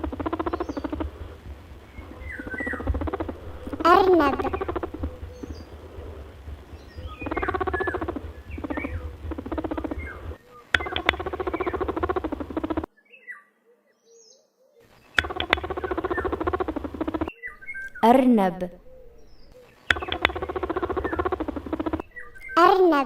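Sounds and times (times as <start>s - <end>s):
rabbit squeaking: 0.0s - 12.9s, 15.2s - 23.0s
faint bird chirps: 0.0s - 23.0s.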